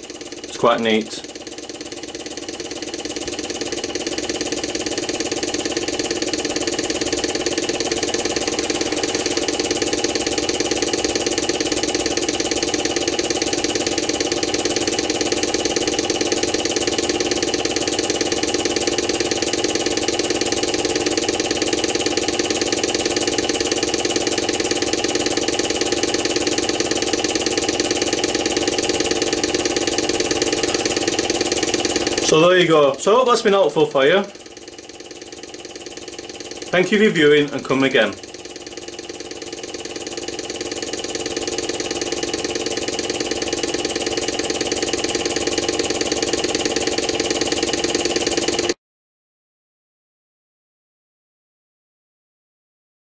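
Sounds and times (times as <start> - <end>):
engine mechanical running noise: 0.0 - 48.8.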